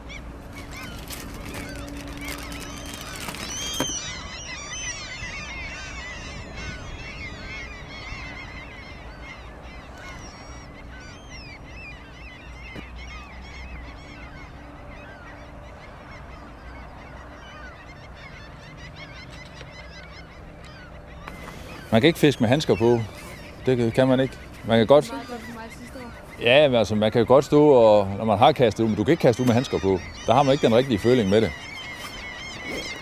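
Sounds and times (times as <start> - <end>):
flock of birds calling: 0.0 - 33.0.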